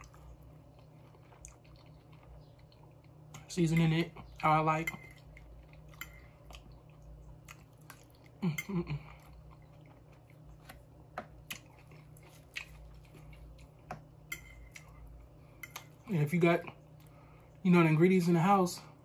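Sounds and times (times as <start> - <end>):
person chewing soft food: 0.0 - 3.5, 5.0 - 17.6.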